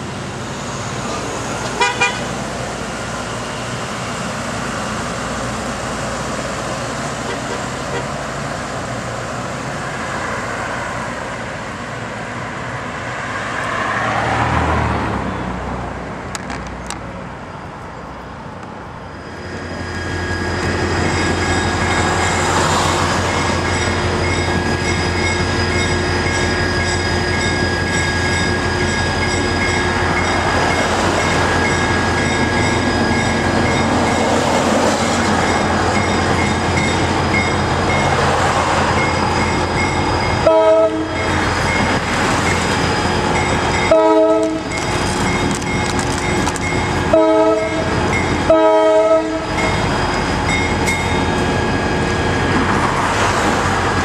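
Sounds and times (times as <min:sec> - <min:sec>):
diesel locomotive engine drone: 0:00.0 - 0:54.0
passenger train rolling past: 0:00.0 - 0:54.0.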